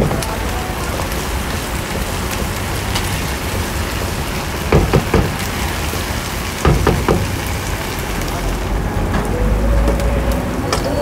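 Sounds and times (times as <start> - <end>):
food sizzling in frying: 0.0 - 11.0.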